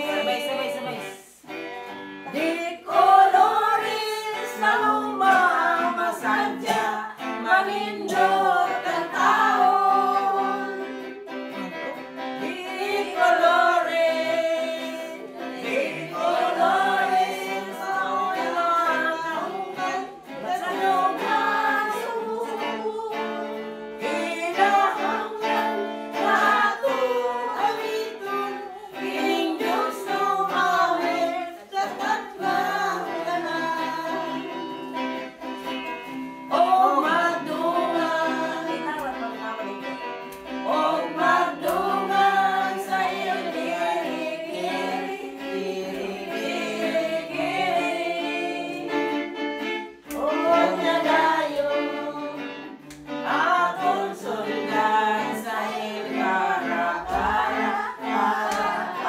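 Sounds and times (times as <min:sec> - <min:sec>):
group of people singing: 0:00.0 - 0:59.0
guitar accompaniment: 0:00.0 - 0:59.0.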